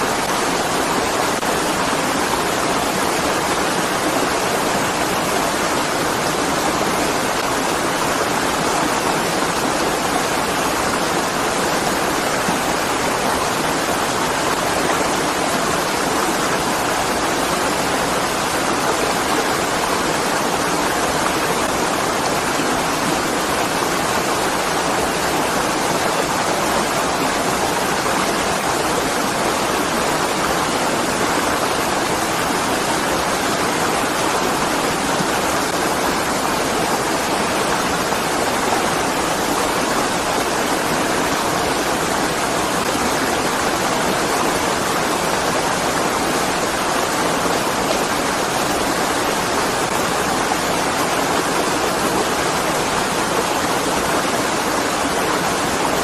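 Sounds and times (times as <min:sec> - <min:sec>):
small waterfall splashing: 0:00.0 - 0:56.0
stream rushing over rocks: 0:00.0 - 0:56.0.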